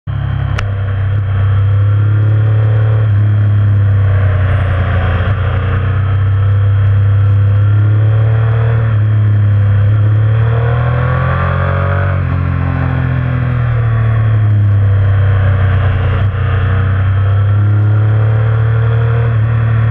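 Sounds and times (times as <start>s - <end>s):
motorcycle engine accelerating: 0.1s - 19.9s.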